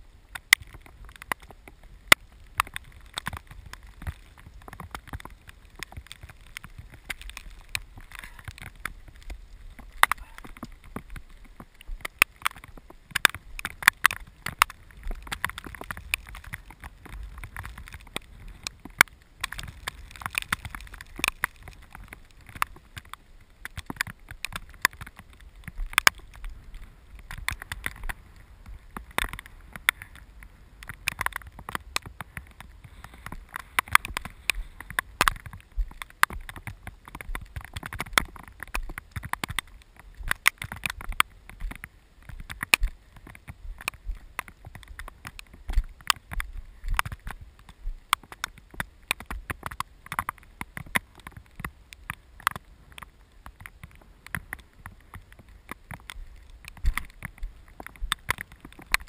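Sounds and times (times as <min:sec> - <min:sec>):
raindrops striking camera: 0:00.0 - 0:59.0
wind rumble on microphone: 0:00.0 - 0:59.0.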